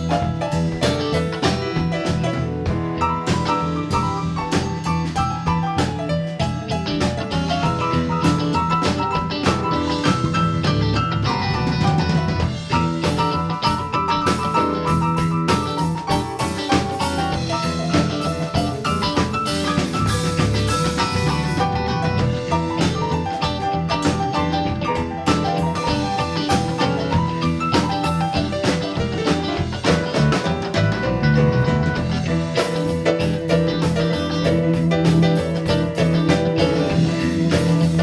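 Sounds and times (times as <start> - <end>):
drum kit: 0.0 - 38.0.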